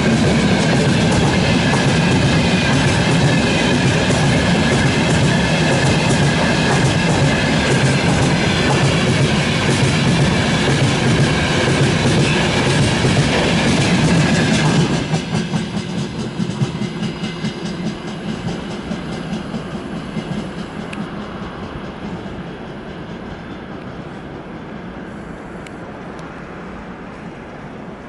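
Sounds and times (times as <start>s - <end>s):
train wheels clickety-clack: 0.0s - 26.5s.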